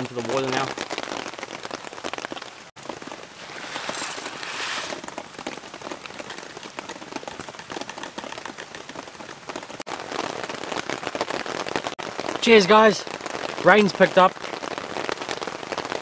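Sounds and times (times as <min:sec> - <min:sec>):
campfire hissing: 0:00.0 - 0:16.0
heavy rain falling: 0:00.0 - 0:16.0.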